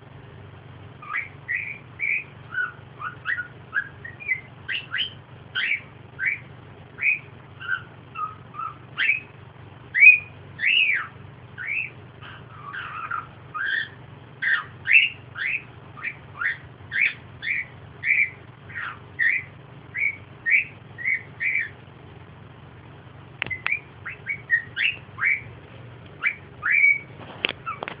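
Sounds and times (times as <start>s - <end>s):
steady low hum: 0.0s - 28.0s
bird chirping and whistling: 1.0s - 21.8s, 23.4s - 25.5s, 26.2s - 27.9s.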